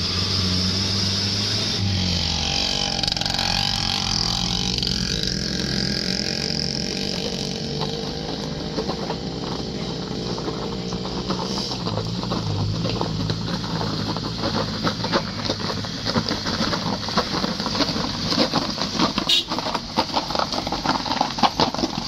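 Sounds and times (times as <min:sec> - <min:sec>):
suv engine pulling uphill: 0:00.0 - 0:22.0
stones crunching under tyres: 0:00.2 - 0:22.0.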